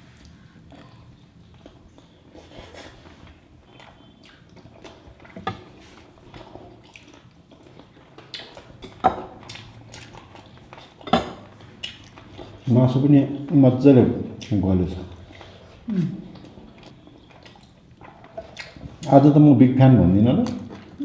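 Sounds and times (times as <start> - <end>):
person chewing food: 0.0 - 12.7, 14.3 - 19.1, 20.4 - 21.0.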